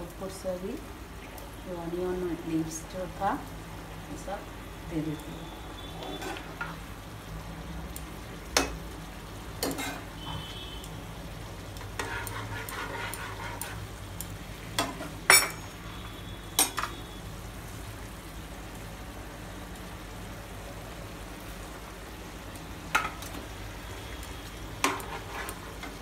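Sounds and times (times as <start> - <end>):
gravy sizzling in a frying pan: 0.0 - 26.0.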